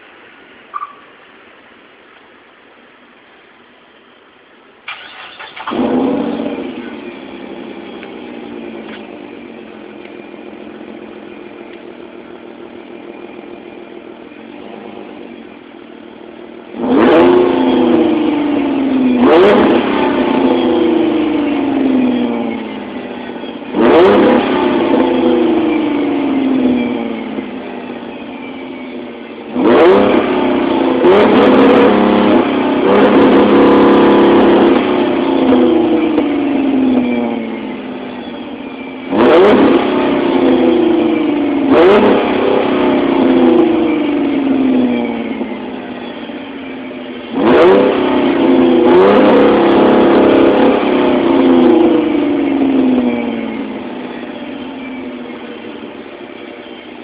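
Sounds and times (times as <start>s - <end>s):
car engine revving: 4.2s - 57.0s.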